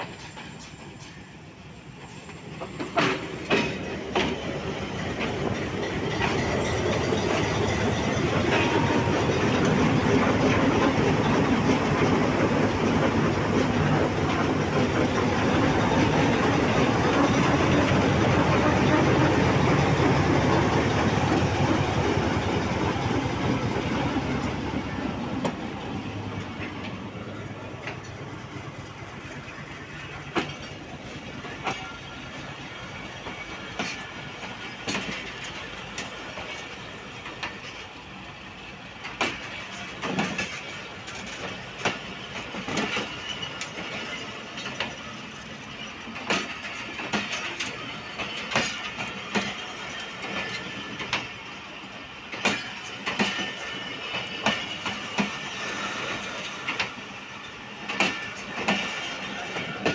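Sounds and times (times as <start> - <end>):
train wheels clacking and knocking: 0.0 - 59.9.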